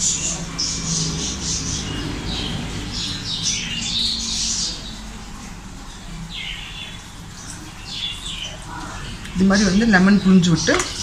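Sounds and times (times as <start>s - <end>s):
small birds chirping and squawking: 0.0s - 11.0s.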